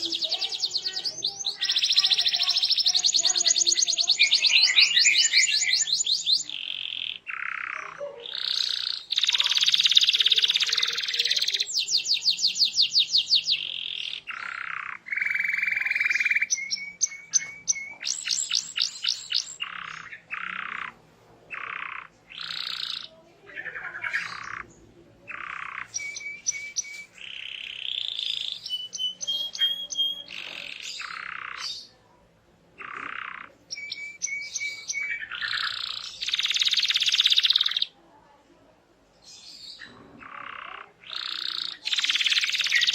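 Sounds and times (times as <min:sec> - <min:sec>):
canary singing trills: 0:00.0 - 0:38.1, 0:39.2 - 0:42.9.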